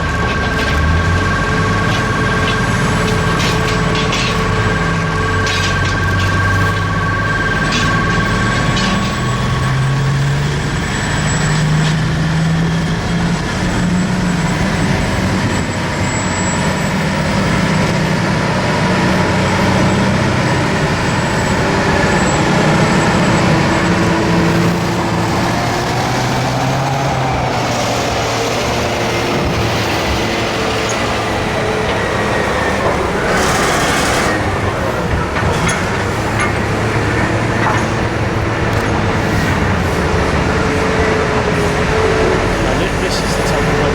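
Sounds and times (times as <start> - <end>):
heavy diesel engines working: 0.0 - 43.9.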